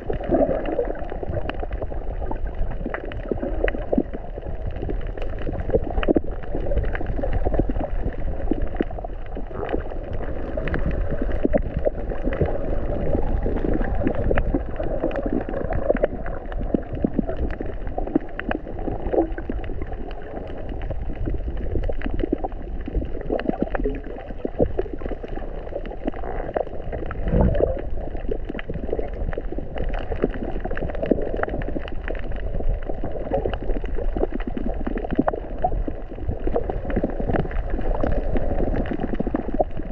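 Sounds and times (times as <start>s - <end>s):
low water rush: 0.0s - 39.9s
muffled water gurgling underwater: 0.0s - 39.9s
small clicks and crackles: 0.0s - 39.9s.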